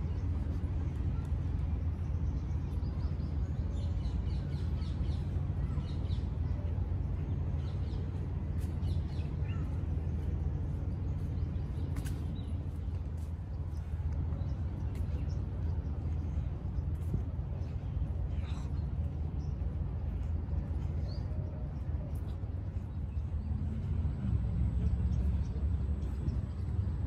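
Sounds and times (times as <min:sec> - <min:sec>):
distant city traffic rumble: 0:00.0 - 0:27.0.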